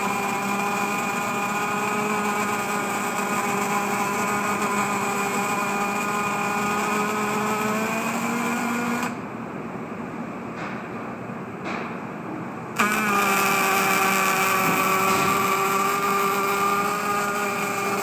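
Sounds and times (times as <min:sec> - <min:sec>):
welding arc hissing: 0:00.0 - 0:09.2, 0:12.8 - 0:18.0
steady hum: 0:00.0 - 0:18.0.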